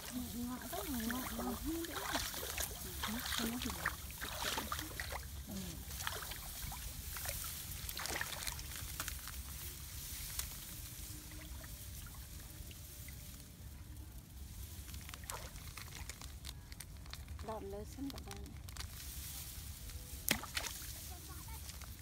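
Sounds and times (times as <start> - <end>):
rice stalks rustling: 0.0 - 22.0
water trickling and splashing: 0.0 - 22.0.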